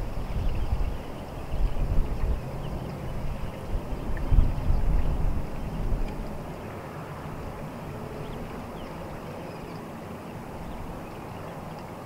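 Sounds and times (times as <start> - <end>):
outdoor background rush: 0.0 - 12.0.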